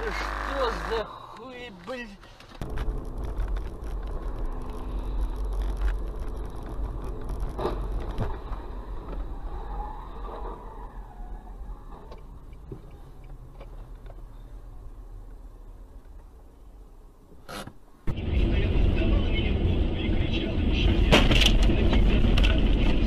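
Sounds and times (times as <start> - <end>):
engine and road noise rumble: 0.0 - 23.0.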